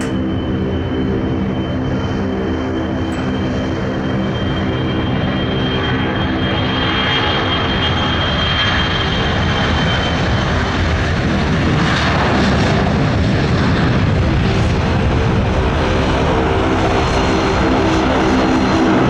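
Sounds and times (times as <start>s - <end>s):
high-pitched jet whine: 0.0s - 19.0s
jet engines roaring: 0.0s - 19.0s.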